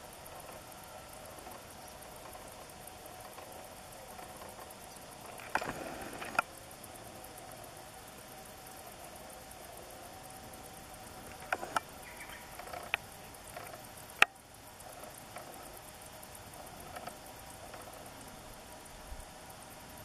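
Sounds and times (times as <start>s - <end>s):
faint insects chirring: 0.0s - 20.0s.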